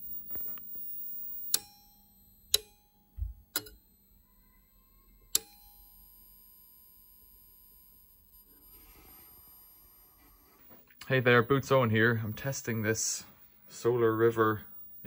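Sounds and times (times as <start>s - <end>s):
faint high electronic whine: 0.0s - 15.0s.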